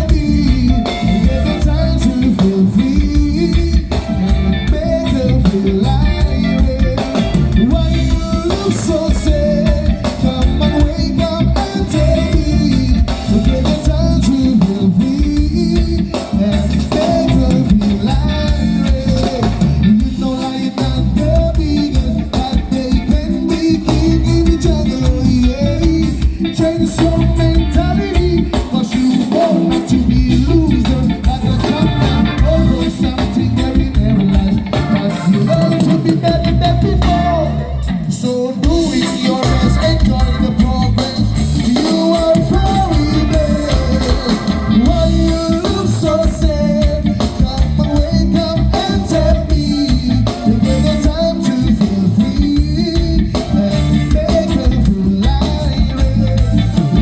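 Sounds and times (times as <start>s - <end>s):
live reggae band playing: 0.0s - 57.0s
person singing: 0.0s - 57.0s
steady bass line: 0.0s - 57.0s.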